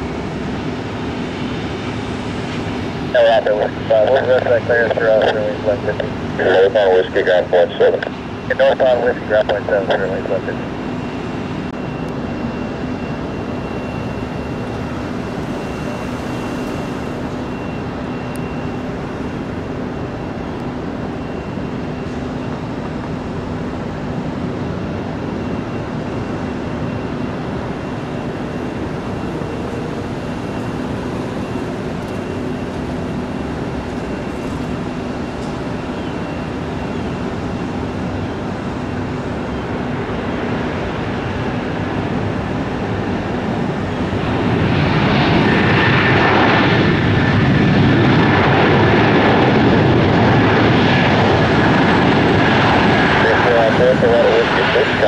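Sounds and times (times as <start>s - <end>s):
aircraft engines rumbling and whining: 0.0s - 55.0s.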